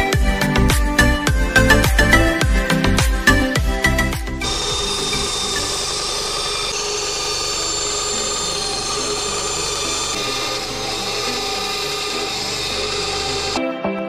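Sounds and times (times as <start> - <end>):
band saw cutting wood: 1.6 - 13.6.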